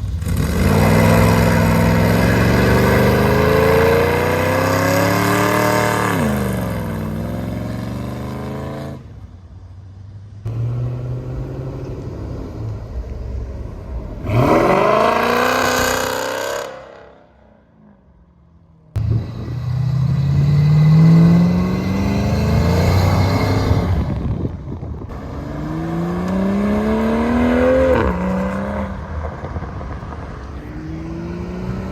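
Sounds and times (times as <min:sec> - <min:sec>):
car engine revving: 0:00.0 - 0:09.2, 0:10.4 - 0:31.9.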